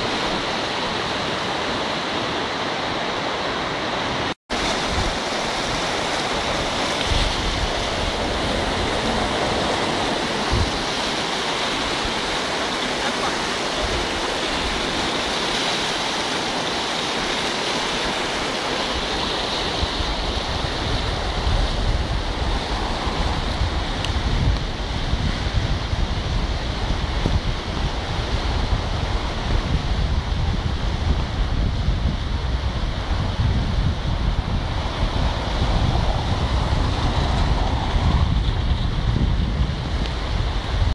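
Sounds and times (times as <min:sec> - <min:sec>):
river rushing through a weir: 0:00.0 - 0:40.9
wind buffeting microphone: 0:04.5 - 0:40.9.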